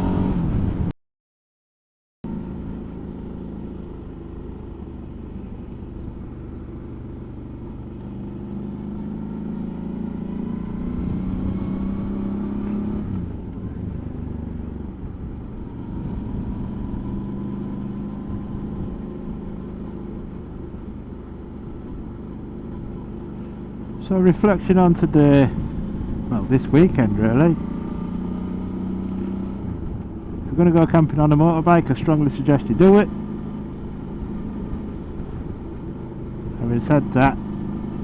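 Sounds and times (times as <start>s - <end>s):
motorcycle engine accelerating: 0.0s - 0.9s, 2.3s - 38.0s
road and wind rumble: 0.0s - 0.9s, 2.2s - 38.0s.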